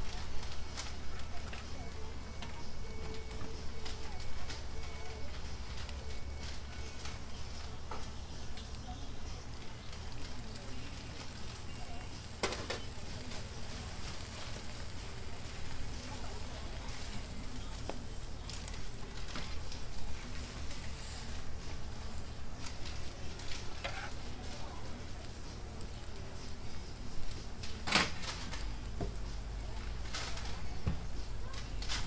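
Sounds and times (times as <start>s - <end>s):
egg and bacon sizzling on griddle: 0.1s - 32.0s.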